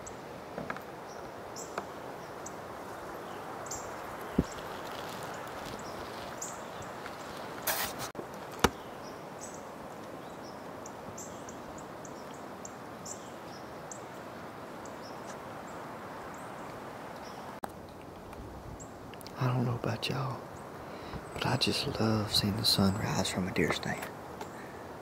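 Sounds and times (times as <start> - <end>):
birds chirping: 0.0 - 17.6, 18.8 - 24.8
background hiss: 0.0 - 25.0
rustle: 0.0 - 25.0.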